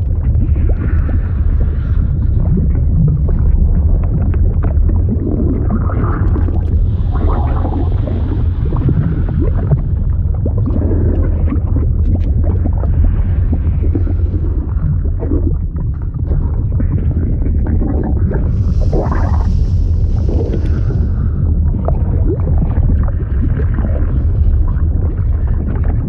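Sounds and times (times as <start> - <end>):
deep rumble: 0.0 - 26.0
shifting liquid wash: 0.0 - 26.0.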